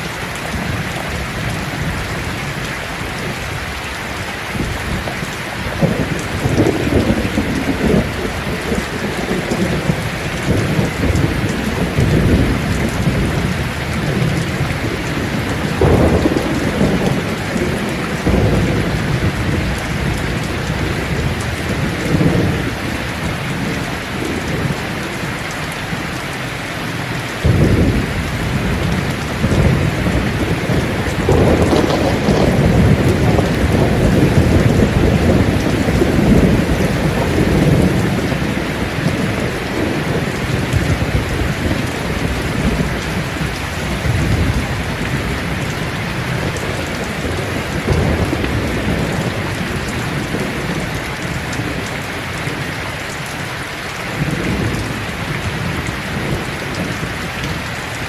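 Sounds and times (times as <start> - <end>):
rain falling on leaves: 0.0 - 58.0
low thunder rumbling: 4.5 - 53.2, 54.0 - 58.0.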